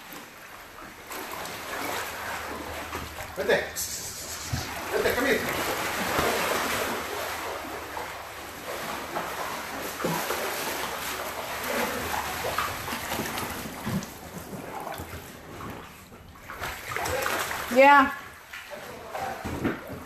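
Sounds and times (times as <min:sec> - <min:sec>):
people wading through water: 0:00.0 - 0:20.0.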